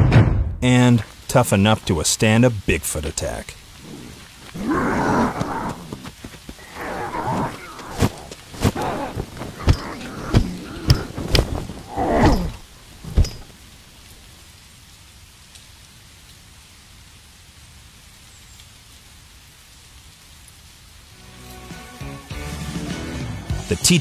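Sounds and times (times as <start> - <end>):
low hiss: 0.6 - 22.3.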